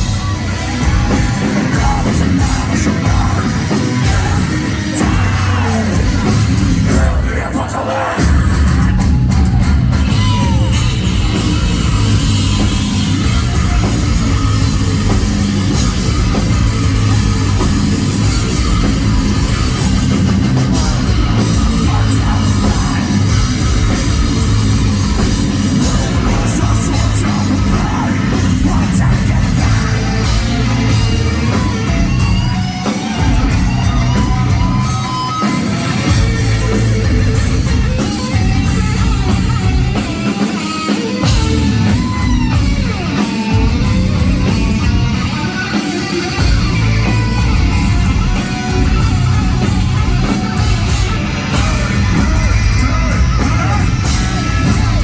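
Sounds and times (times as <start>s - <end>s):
person singing: 0.0s - 11.7s, 19.5s - 55.0s
distorted guitars: 0.0s - 55.0s
drum kit: 0.0s - 55.0s.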